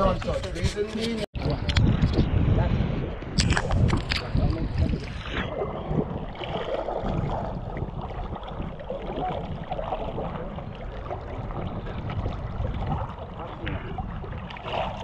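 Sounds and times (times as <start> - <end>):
water lapping against boat hull: 0.0 - 15.0
wind rumbling on microphone: 0.0 - 15.0.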